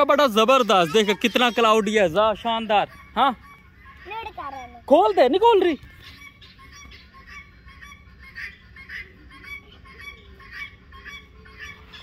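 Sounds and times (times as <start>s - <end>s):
farmyard birds calling: 0.0s - 12.0s.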